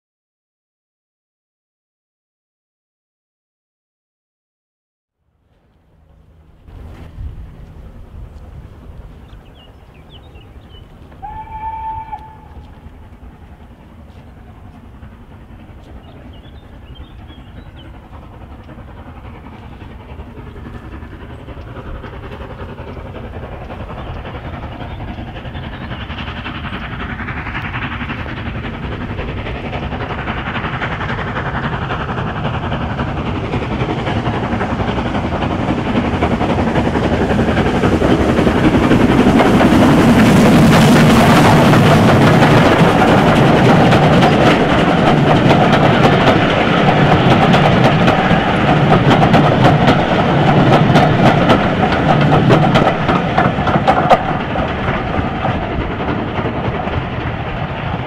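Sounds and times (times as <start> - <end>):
steam locomotive passing: 5.2 - 58.0.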